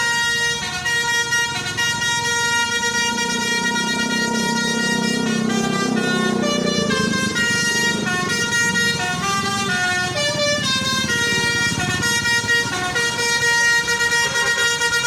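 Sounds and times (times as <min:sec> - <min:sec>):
bus horn playing a tune: 0:00.0 - 0:15.0
low engine rumble: 0:00.0 - 0:15.0.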